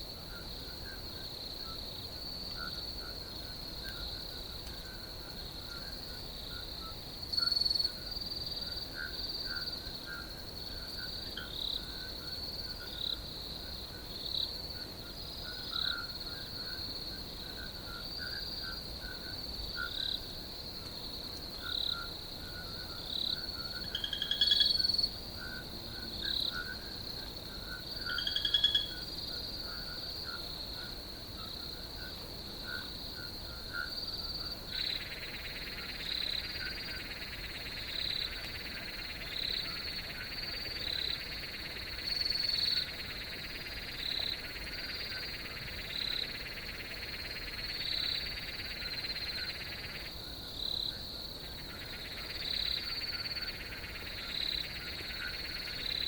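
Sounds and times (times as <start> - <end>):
cricket trill: 0.0 - 56.0
frogs croaking: 0.0 - 56.0.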